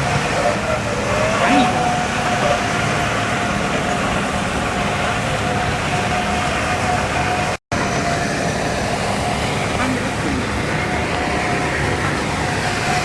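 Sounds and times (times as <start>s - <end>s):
dense vehicle noise: 0.0s - 13.0s.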